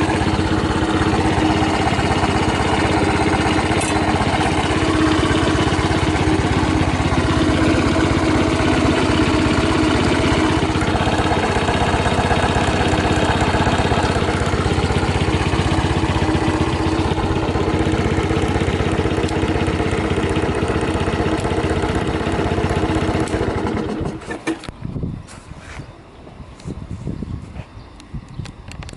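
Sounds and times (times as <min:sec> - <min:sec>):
small engine idling: 0:00.0 - 0:24.8.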